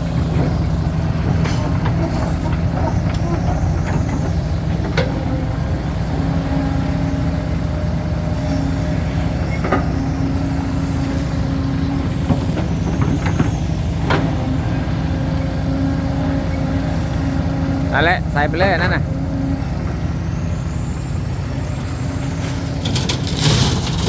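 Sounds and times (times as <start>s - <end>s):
diesel construction machinery running: 0.0s - 24.0s.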